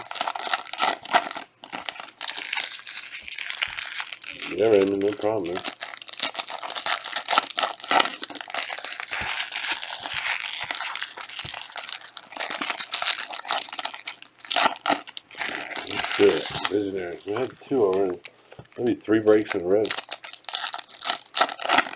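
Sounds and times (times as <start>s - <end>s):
wrappers torn and crumpled: 0.0s - 21.9s.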